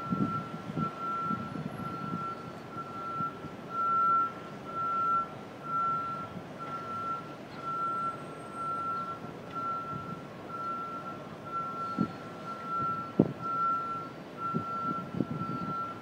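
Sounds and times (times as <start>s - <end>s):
back-up alarm beeping: 0.0s - 16.0s.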